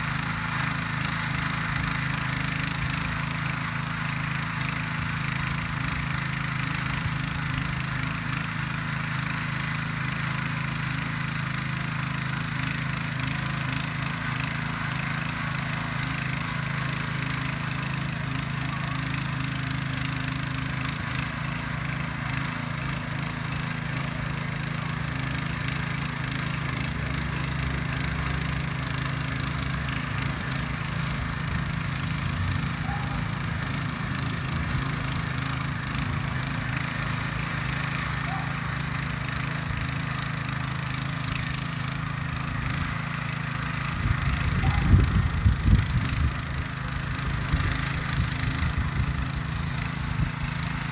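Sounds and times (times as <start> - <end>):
tiller engine running: 0.0 - 50.9
tines churning dry soil: 0.0 - 50.9.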